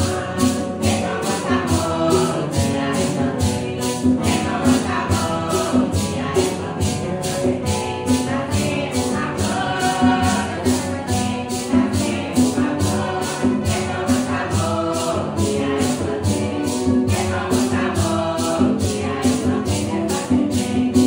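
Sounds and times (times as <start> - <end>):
group singing a devotional song: 0.0 - 21.0
shaker keeping a beat: 0.0 - 21.0
strummed acoustic guitars: 0.0 - 21.0.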